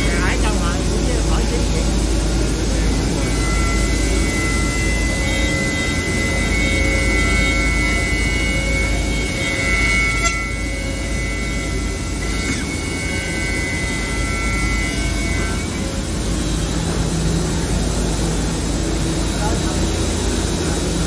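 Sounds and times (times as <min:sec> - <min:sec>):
low machinery hum: 0:00.0 - 0:21.0
spindle whine: 0:00.0 - 0:21.0.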